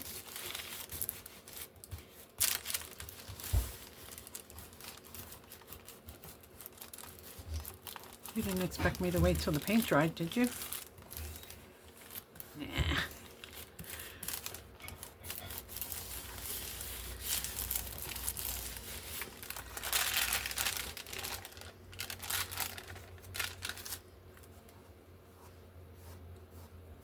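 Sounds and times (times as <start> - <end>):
paper rustling and crinkling: 0.0 - 24.9.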